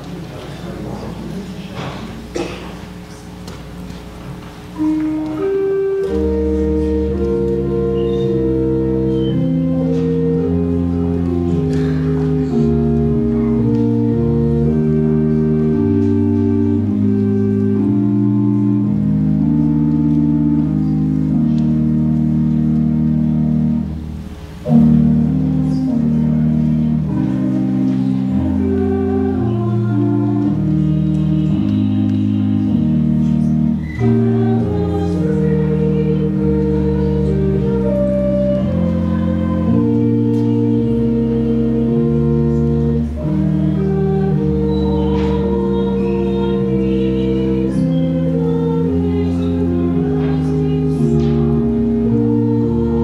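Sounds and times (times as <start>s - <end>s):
organ playing sustained chords: 0.0s - 53.0s.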